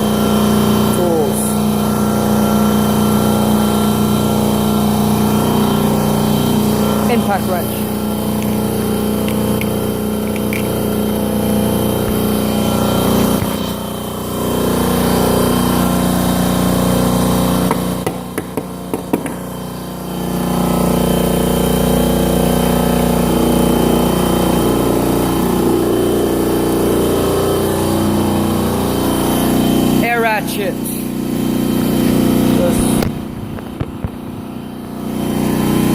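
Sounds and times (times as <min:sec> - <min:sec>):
motor-driven machine running: 0:00.0 - 0:35.9.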